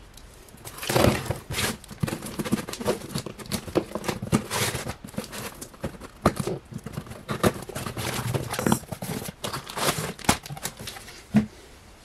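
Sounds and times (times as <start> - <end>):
cardboard flaps rustling: 0.6 - 11.6.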